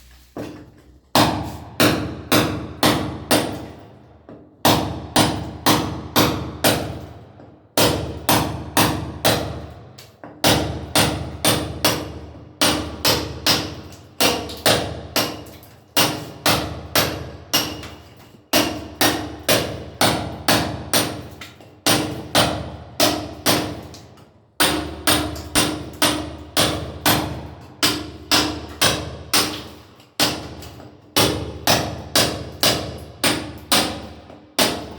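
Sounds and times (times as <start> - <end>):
hammer blows on masonry: 0.4 - 23.9, 24.6 - 30.6, 31.2 - 34.9.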